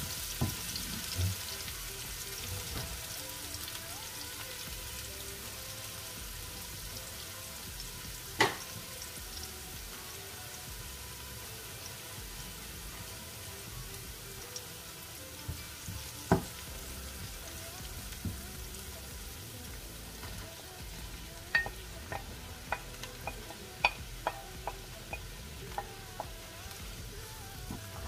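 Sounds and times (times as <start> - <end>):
onions sizzling in oil: 0.0 - 28.0.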